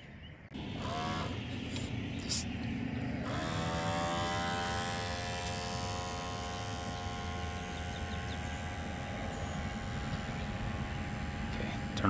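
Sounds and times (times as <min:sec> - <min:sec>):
electric boat motor whining: 0:00.5 - 0:12.0.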